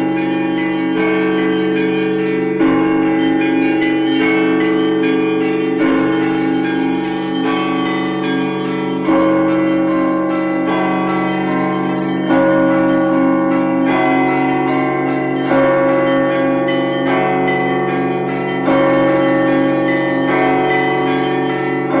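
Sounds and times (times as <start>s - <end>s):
large bell humming: 0.0s - 22.0s
small bells ringing: 0.0s - 22.0s.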